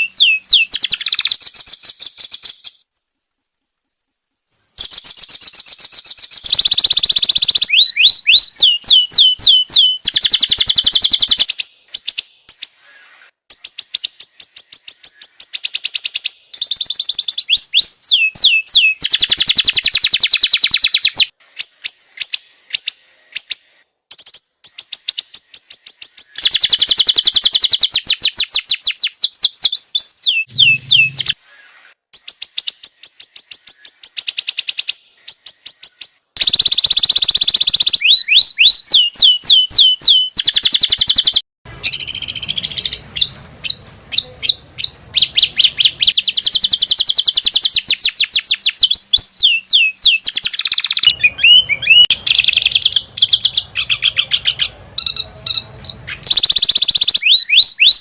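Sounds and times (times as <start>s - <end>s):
songbird trills and whistles: 0.0s - 2.8s, 4.5s - 58.0s.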